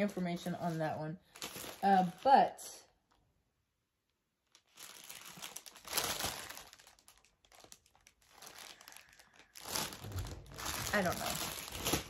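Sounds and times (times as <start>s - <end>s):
plastic bag crinkling: 0.0s - 2.7s, 4.4s - 12.0s.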